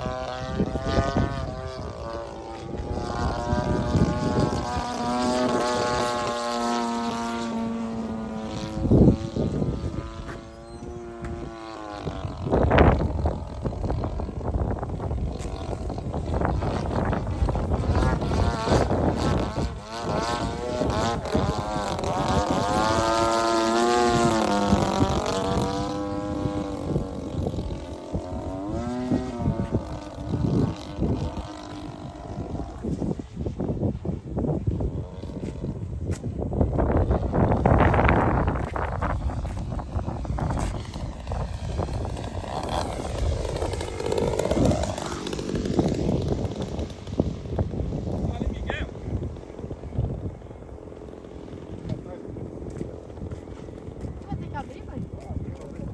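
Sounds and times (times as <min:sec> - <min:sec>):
model plane engine: 0:00.0 - 0:55.9
wind buffeting microphone: 0:00.0 - 0:55.9.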